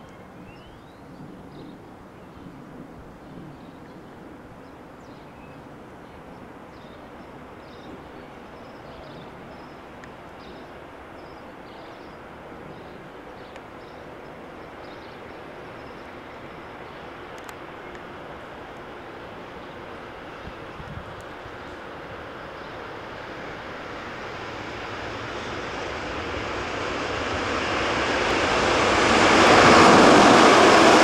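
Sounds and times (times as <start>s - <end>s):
freight train rumble: 0.0s - 31.0s.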